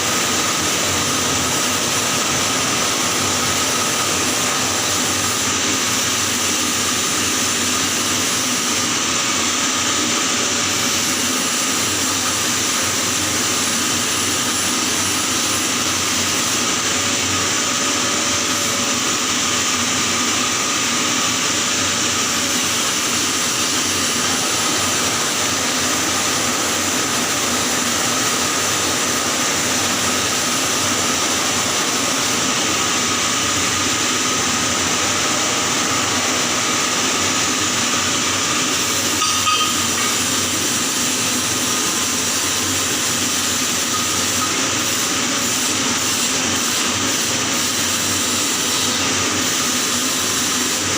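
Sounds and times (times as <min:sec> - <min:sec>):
arc welding hiss: 0:00.0 - 0:50.9.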